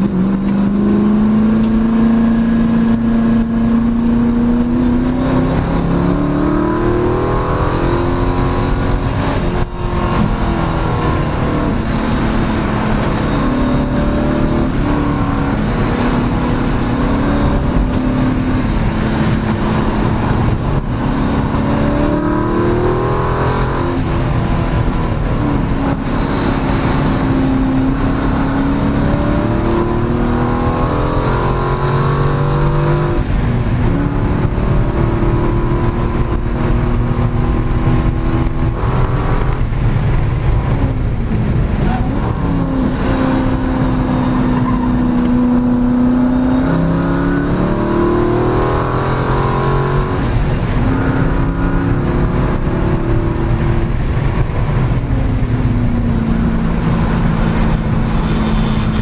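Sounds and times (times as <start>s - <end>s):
car engine accelerating: 0.0s - 59.0s
steady rush of noise: 0.0s - 59.0s.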